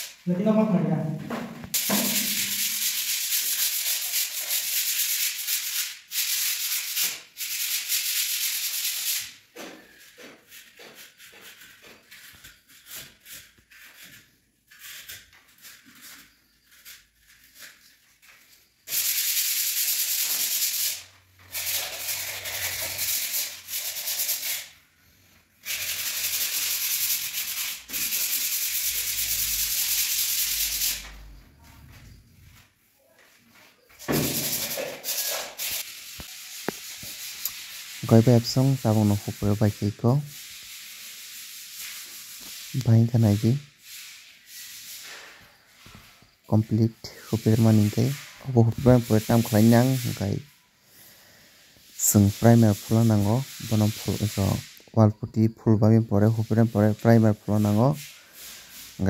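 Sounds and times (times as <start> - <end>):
sandpaper sanding wall putty: 1.8 - 31.3, 34.0 - 50.5, 51.8 - 54.9, 56.2 - 59.0.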